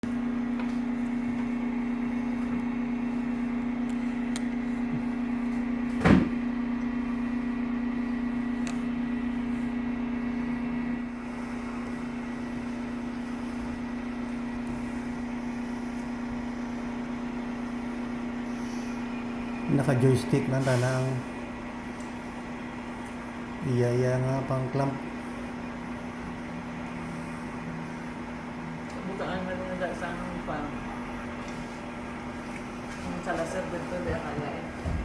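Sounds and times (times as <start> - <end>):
garbage truck humming: 0.0 - 35.0.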